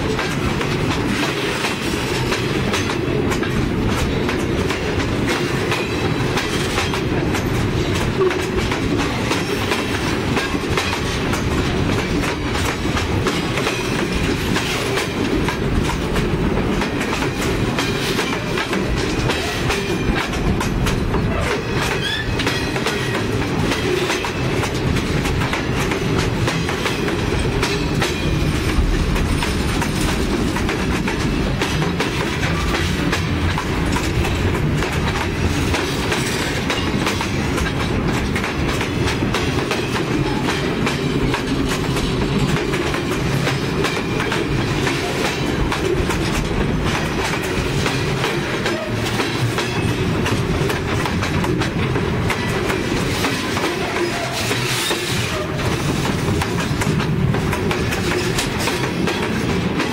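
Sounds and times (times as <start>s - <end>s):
freight cars rumbling over rails: 0.0s - 59.9s.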